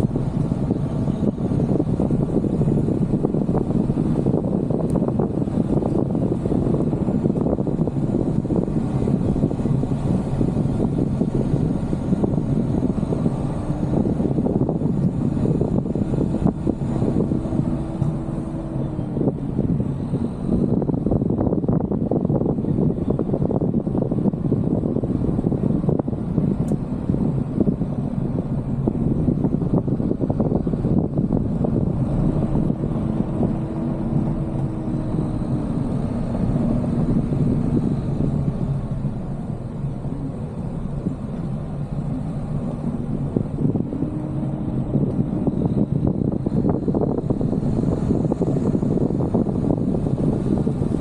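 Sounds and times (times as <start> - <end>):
vehicle rumble on dirt track: 0.0 - 51.0
wind buffeting microphone: 0.0 - 51.0.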